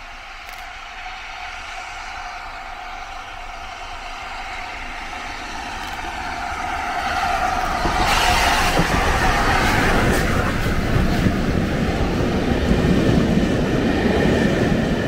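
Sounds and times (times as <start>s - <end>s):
steam locomotive passing: 0.0s - 15.0s.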